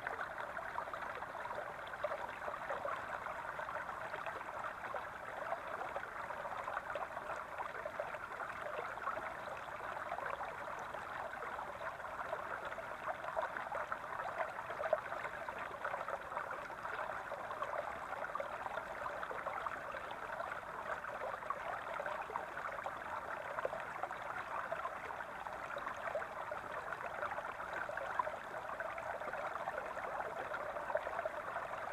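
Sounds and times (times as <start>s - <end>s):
brook babbling: 0.0s - 31.9s.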